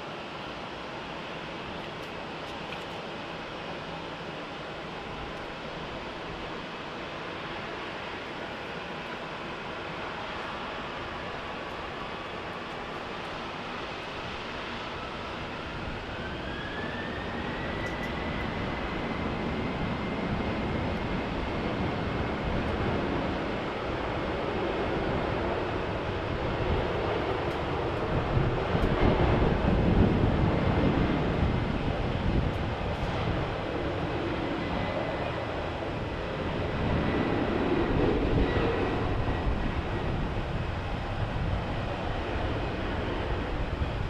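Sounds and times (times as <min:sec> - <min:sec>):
deep jet engine rumble: 0:00.0 - 0:44.0
jet engine whine rising: 0:00.0 - 0:44.0.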